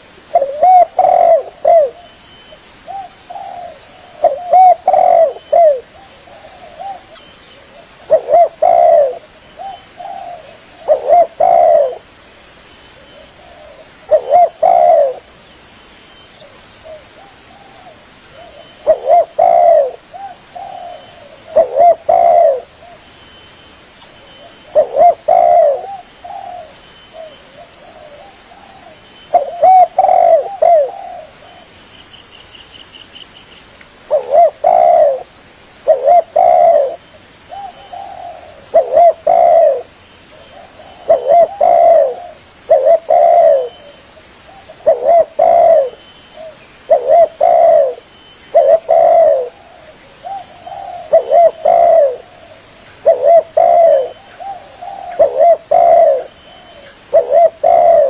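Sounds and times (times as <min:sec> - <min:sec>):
dove cooing: 0:00.0 - 0:02.2, 0:02.8 - 0:12.1, 0:13.0 - 0:15.4, 0:16.4 - 0:23.1, 0:24.2 - 0:31.8, 0:34.1 - 0:58.0.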